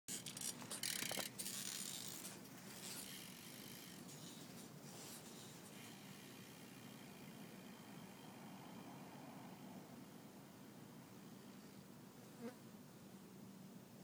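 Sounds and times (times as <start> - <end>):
faint background hiss: 0.1 - 14.0.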